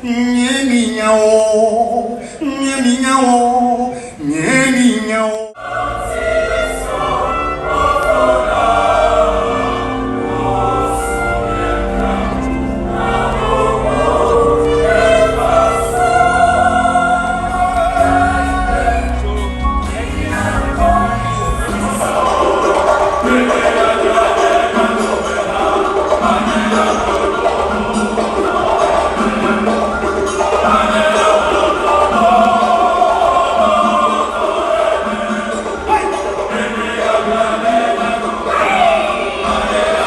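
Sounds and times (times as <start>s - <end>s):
gospel choir singing: 0.0s - 40.0s.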